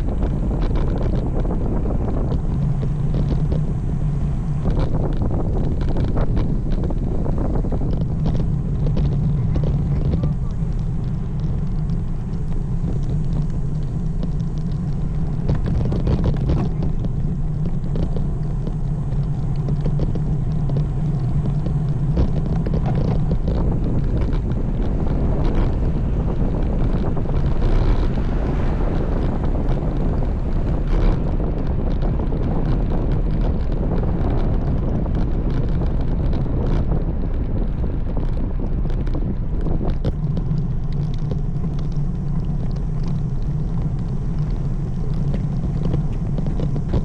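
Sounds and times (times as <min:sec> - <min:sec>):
low rumble: 0:00.0 - 0:47.0
wind buffeting microphone: 0:00.0 - 0:47.0.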